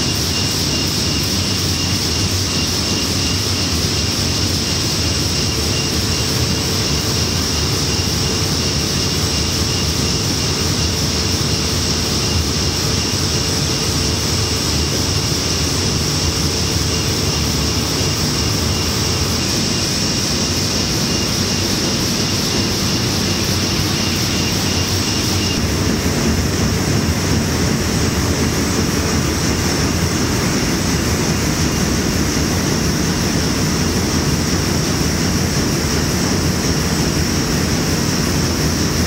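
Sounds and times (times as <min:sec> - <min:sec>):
printing machinery running: 0:00.0 - 0:39.0.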